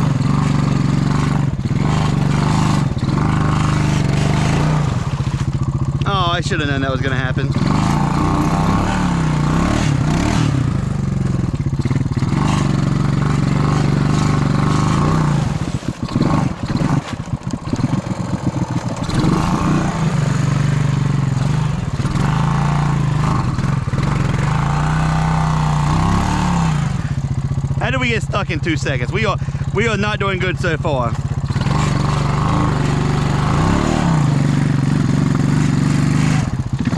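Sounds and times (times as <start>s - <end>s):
quad engine revving: 0.0s - 36.9s.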